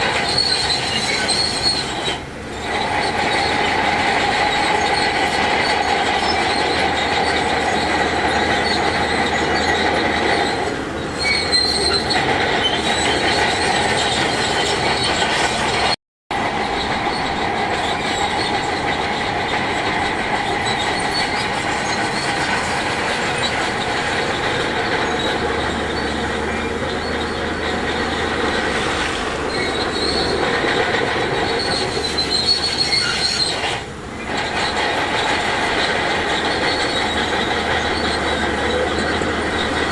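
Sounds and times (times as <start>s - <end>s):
diesel engines running: 0.0s - 39.9s
metallic squeal and clatter of tracks: 0.0s - 39.9s.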